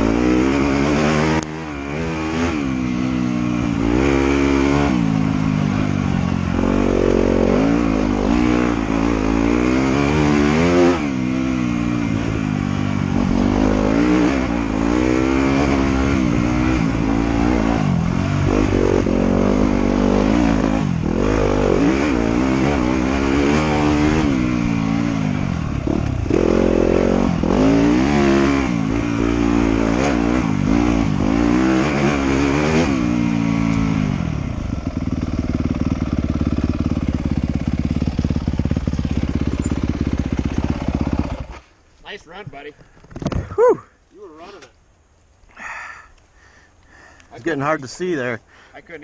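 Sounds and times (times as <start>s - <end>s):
off-road motorcycle engine revving: 0.0s - 44.7s.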